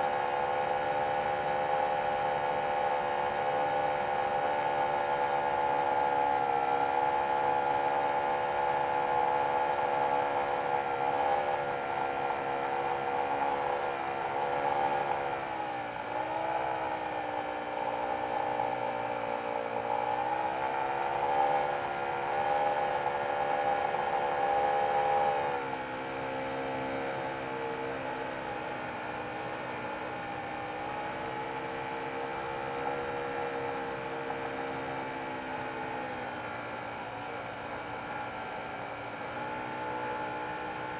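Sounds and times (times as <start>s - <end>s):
model airplane engine in flight: 0.0s - 40.9s.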